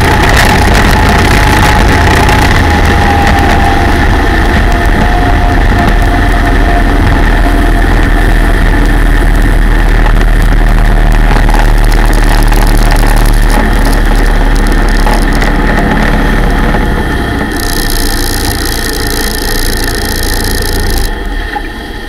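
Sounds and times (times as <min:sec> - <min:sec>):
wind and water rushing: 0:00.0 - 0:21.1
motorboat engine drone: 0:00.0 - 0:22.0.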